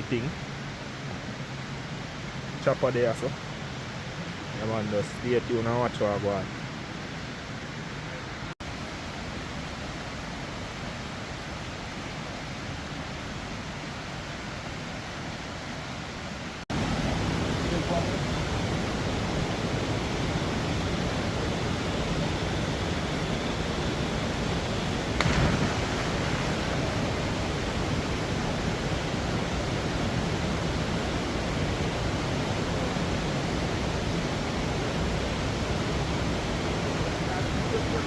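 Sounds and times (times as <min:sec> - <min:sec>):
river water rushing: 0:00.1 - 0:38.0.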